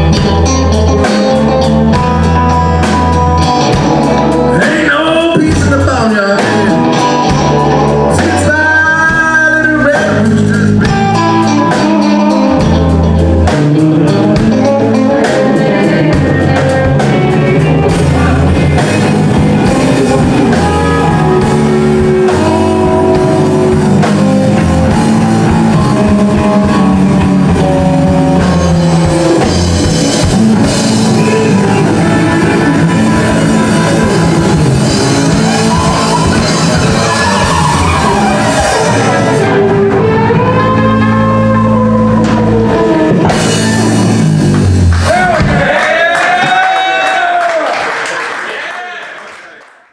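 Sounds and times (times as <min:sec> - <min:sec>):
live blues band playing: 0:00.0 - 0:47.4.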